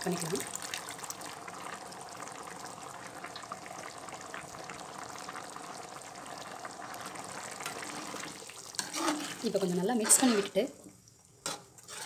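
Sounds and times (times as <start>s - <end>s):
water and rice bubbling: 0.0s - 12.0s.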